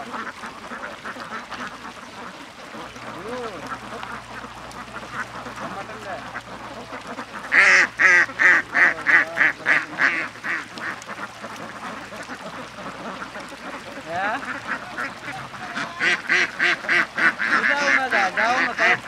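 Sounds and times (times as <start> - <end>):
bird rapid repeated calls: 1.1 - 19.0.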